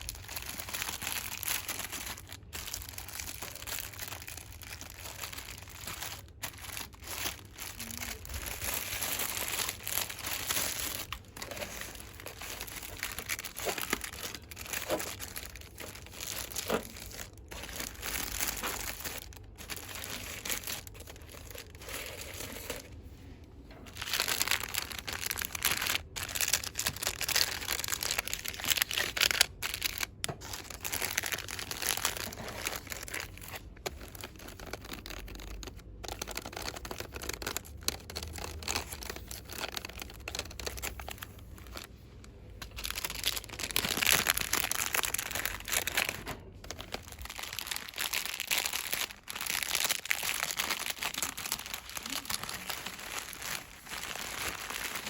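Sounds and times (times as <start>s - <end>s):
plastic packaging crinkling: 0.0s - 23.2s, 23.8s - 55.0s.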